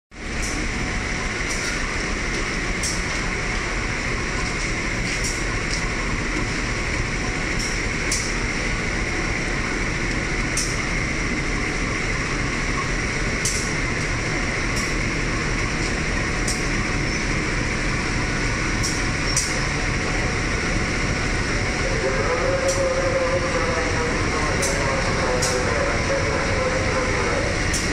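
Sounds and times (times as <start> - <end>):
diesel locomotive engine rumble: 0.1 - 27.9.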